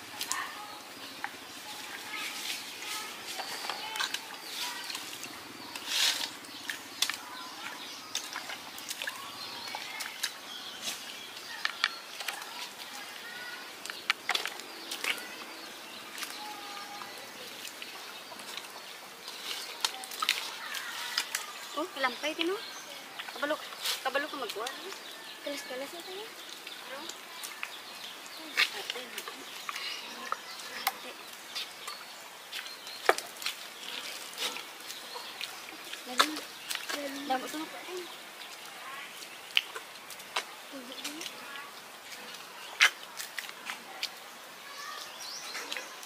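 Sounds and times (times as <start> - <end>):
boots squelching through mud: 0.0 - 44.2
faint birds chirping: 0.0 - 46.0.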